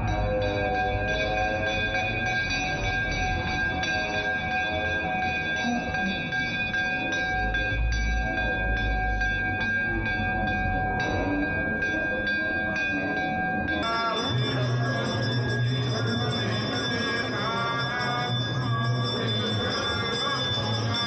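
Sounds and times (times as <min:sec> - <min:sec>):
bells ringing: 0:00.0 - 0:21.0.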